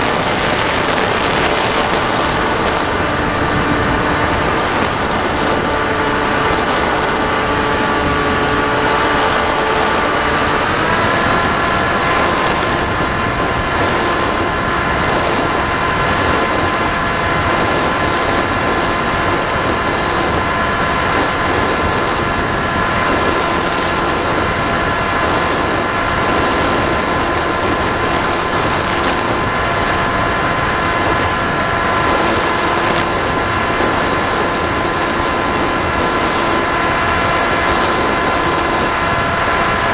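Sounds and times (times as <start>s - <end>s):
electric motor and propeller whining: 0.0s - 39.9s
wind noise: 0.0s - 39.9s.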